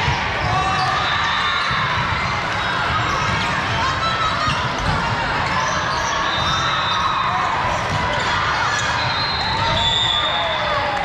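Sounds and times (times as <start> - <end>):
murmur of voices in large hall: 0.0 - 11.0.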